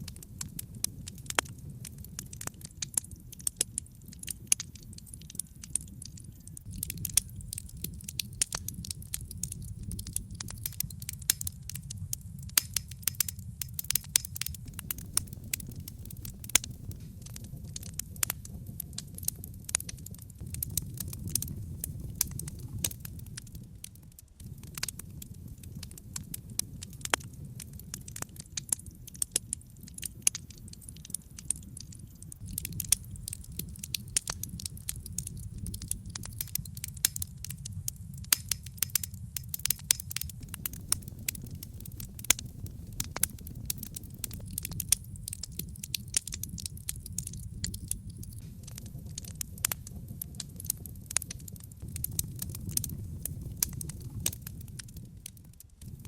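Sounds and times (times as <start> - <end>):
fire flames rushing: 0.0 - 56.0
wood crackling and popping: 0.0 - 56.0.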